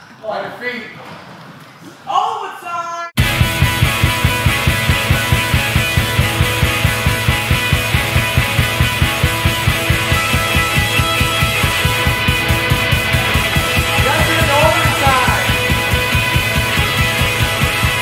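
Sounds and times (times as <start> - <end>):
rock music with fast drum beat: 3.2 - 18.0.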